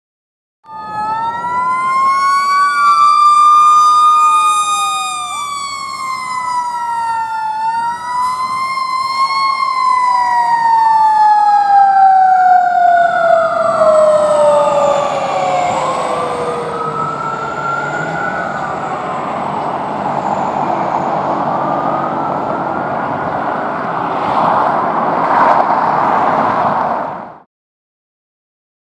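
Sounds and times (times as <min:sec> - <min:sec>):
fire engine sirens wailing: 0:00.6 - 0:27.4
rough noisy siren: 0:00.6 - 0:27.4.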